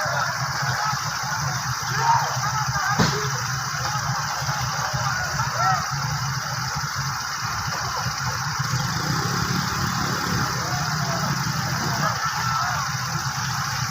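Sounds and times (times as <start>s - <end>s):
small engine pulsing: 0.0s - 13.9s.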